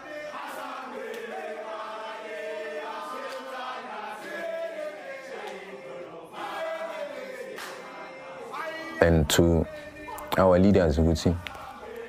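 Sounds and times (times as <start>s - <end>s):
men singing together: 0.0s - 10.5s, 11.3s - 12.0s.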